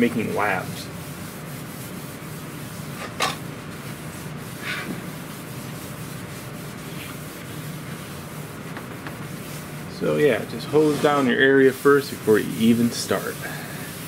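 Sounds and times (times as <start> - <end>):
towel rubbing on countertop: 0.0 - 14.0.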